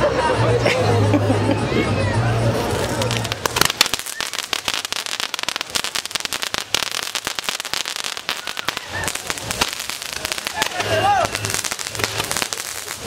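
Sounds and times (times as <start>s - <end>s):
firecrackers cracking: 2.5s - 13.0s.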